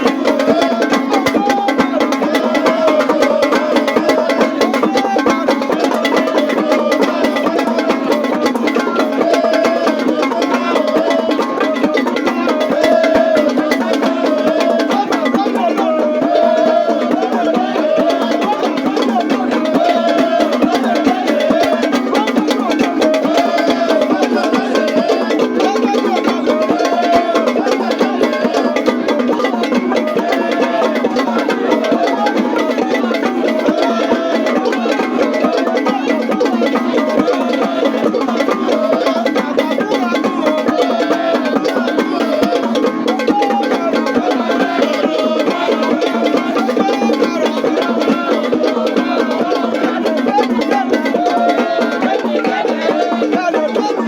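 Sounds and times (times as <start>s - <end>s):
music with percussion: 0.0s - 54.0s.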